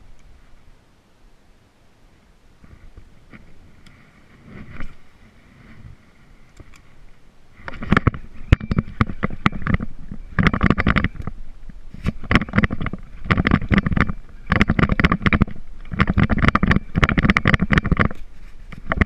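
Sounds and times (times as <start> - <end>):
knocks rubs and rumble: 2.6 - 6.4, 7.0 - 19.0
hand handling camera microphone: 2.6 - 7.0, 7.6 - 19.0.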